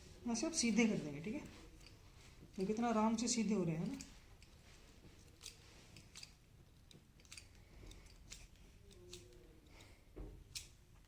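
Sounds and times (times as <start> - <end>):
faint cable clicks and rustles: 0.6 - 11.0.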